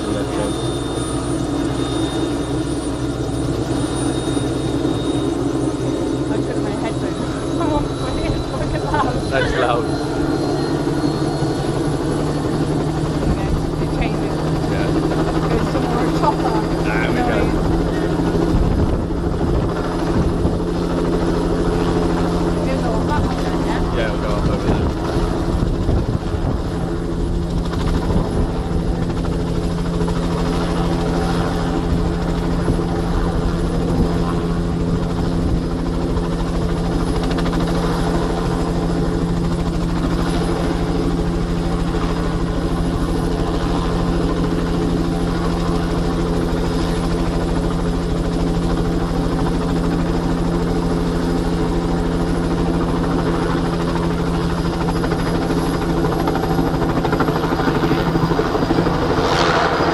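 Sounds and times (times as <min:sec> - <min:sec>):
helicopter engine and rotor: 0:00.0 - 0:59.9
high turbine whine: 0:00.0 - 0:59.9.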